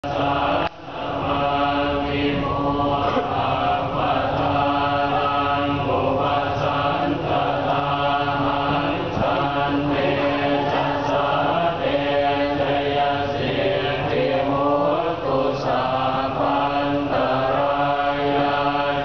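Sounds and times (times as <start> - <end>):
monks chanting in unison: 0.0 - 19.0.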